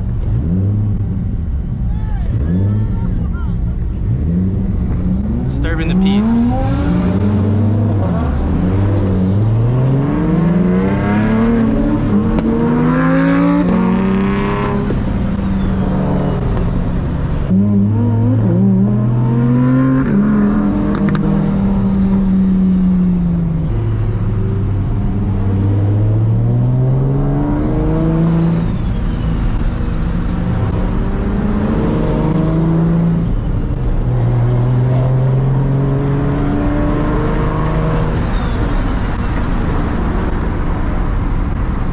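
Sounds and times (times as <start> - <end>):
car engine revving under load: 0.0 - 41.9.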